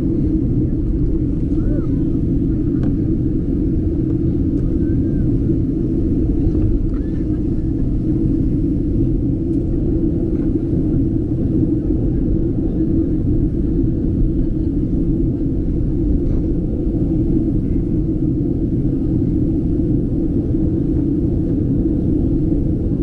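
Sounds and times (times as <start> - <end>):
airliner cabin engine drone: 0.0 - 23.0.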